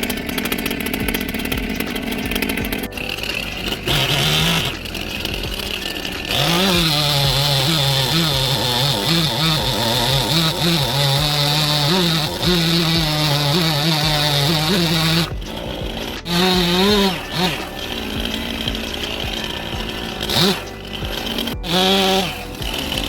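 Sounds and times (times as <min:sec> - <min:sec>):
chainsaw carving wood: 0:00.0 - 0:23.0.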